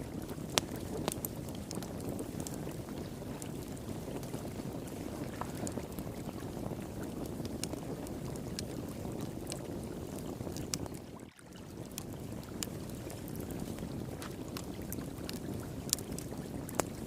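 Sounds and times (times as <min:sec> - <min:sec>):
flowing water: 0:00.0 - 0:17.0
wood fire crackling: 0:00.0 - 0:17.0.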